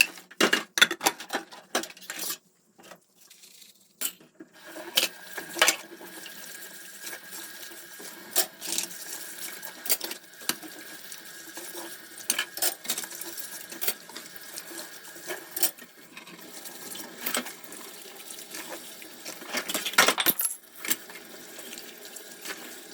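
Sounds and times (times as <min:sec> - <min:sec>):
water running into a sink: 0:03.2 - 0:20.0, 0:20.6 - 0:22.9.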